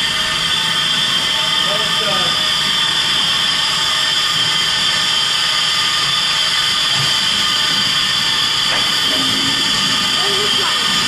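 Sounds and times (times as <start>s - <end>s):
steam hissing loudly: 0.0s - 11.0s.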